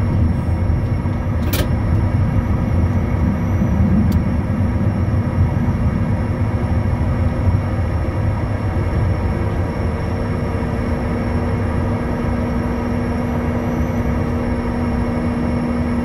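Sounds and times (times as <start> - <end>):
jet engines low rumble: 0.0 - 16.0.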